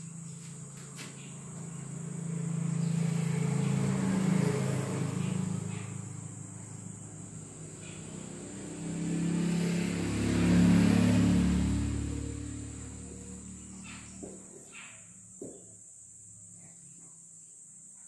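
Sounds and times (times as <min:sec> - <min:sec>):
vehicle engines passing by: 0:00.0 - 0:15.5.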